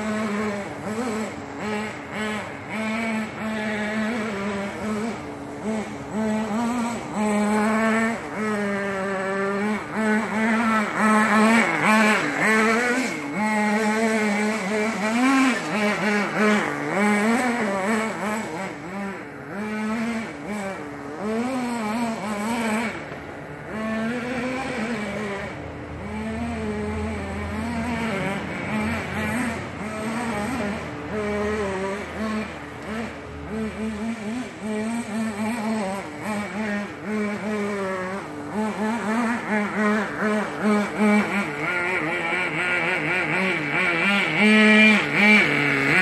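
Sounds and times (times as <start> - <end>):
rc car engine revving: 0.0 - 46.0.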